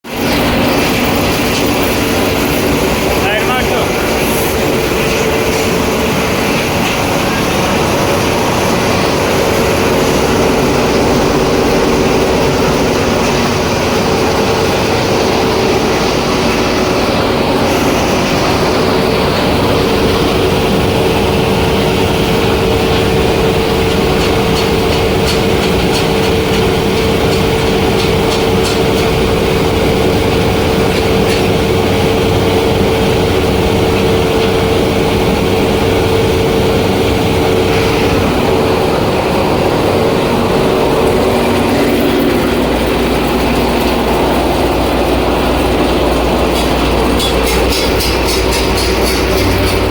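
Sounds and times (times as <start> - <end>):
machine drone: 0.0 - 49.9
motor hum: 0.1 - 49.9.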